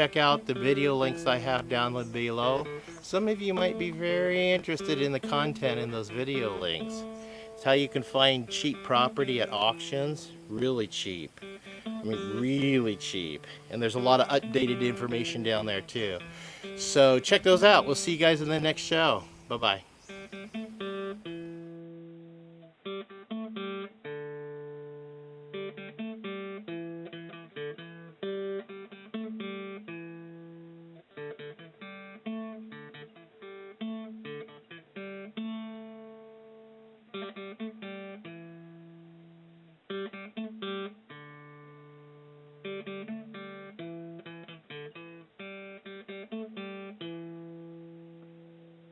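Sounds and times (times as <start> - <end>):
acoustic guitar strummed chords: 0.0 - 48.9.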